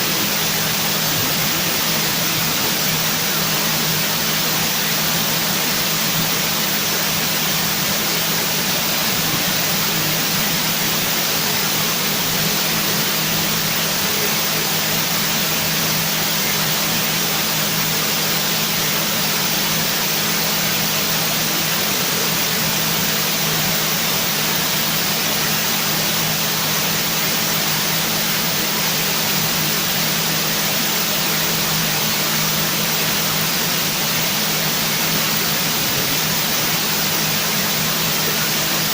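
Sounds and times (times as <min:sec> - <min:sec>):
steady static hiss: 0:00.0 - 0:38.9.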